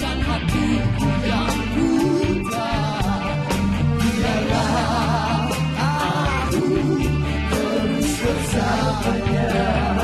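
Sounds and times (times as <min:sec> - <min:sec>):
live band instrumental music: 0:00.0 - 0:10.0.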